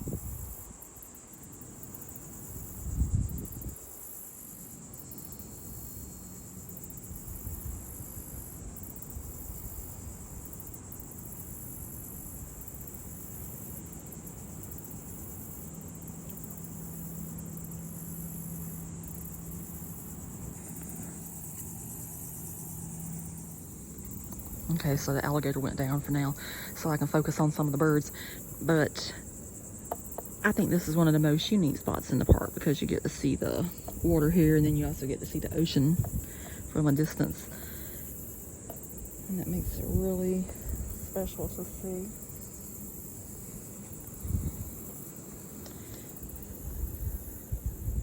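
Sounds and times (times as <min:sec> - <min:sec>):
insects chorus: 0:00.0 - 0:48.0.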